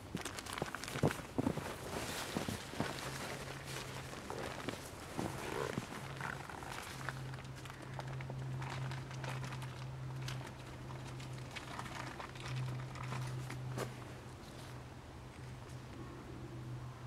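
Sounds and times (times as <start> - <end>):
tarp rustling and crinkling: 0.0 - 14.8
steady low hum: 0.0 - 17.0.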